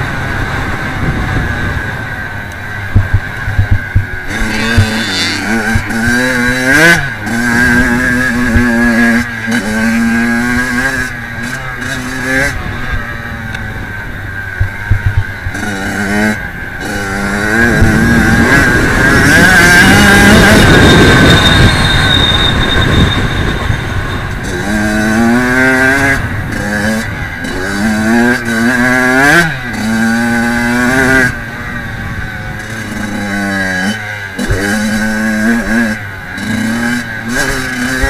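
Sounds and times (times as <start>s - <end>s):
motocross engine revving: 0.1s - 22.2s, 22.8s - 38.0s.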